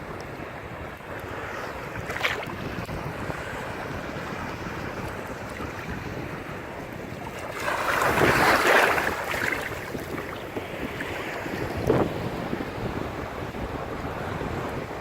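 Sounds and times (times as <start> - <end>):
ocean surf: 0.0 - 15.0
wind buffeting microphone: 0.0 - 15.0
wave breaking and washing in: 0.5 - 15.0.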